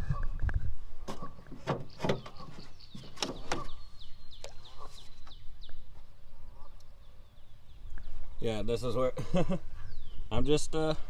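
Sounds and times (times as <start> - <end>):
songbird chirping: 1.0 - 11.0.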